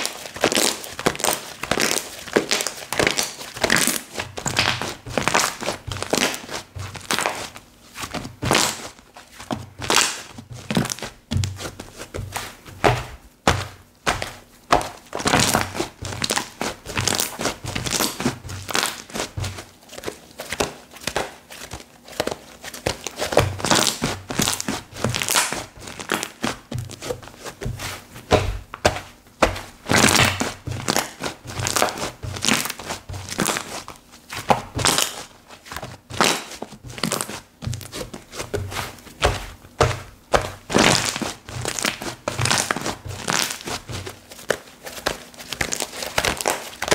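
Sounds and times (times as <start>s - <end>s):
slime squishing and crackling: 0.0s - 46.9s.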